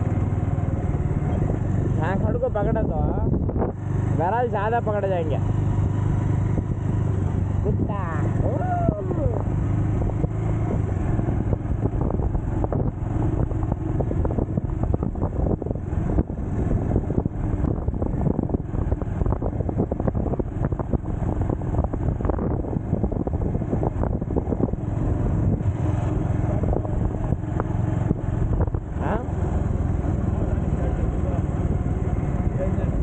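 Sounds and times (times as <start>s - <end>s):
wind buffeting microphone: 0.0s - 4.1s, 5.7s - 30.6s
motorcycle engine cruising: 0.0s - 33.0s.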